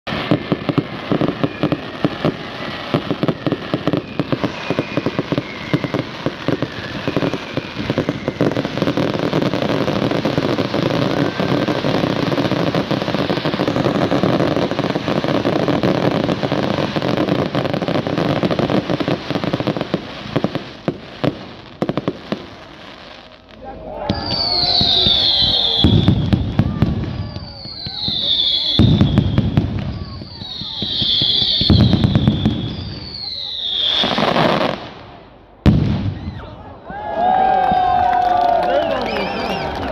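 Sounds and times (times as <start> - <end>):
fireworks bangs and crackling: 0.0 - 36.7.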